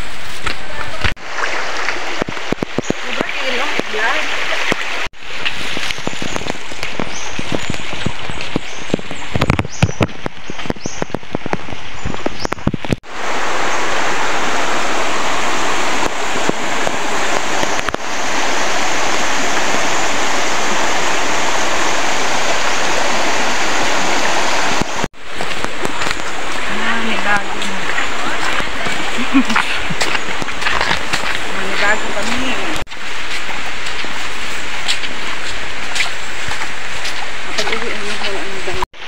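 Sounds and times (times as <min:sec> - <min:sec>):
stream running over rocks: 0:00.0 - 0:39.0.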